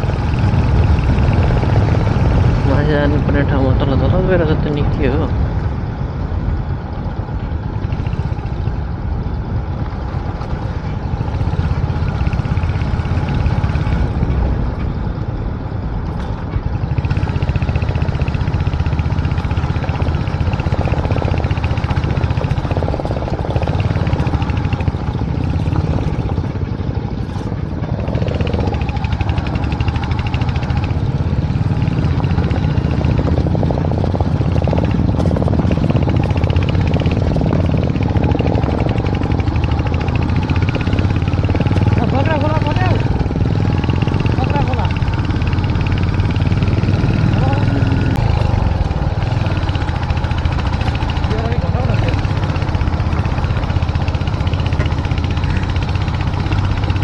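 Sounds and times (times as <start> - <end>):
motorcycle exhaust note: 0.0 - 57.0.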